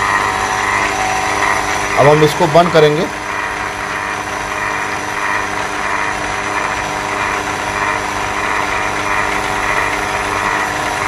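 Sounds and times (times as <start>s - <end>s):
vacuum pump running: 0.0s - 11.0s.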